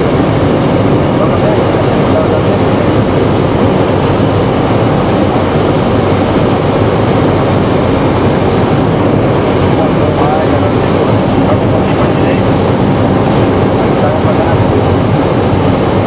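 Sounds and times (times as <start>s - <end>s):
propeller plane engine from cockpit: 0.0s - 16.0s.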